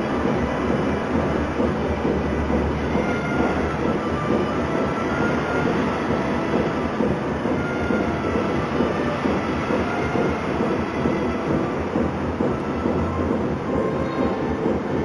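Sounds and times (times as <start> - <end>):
faint whining tones: 0.0 - 15.0
machinery rumbling and rattling: 0.0 - 15.0.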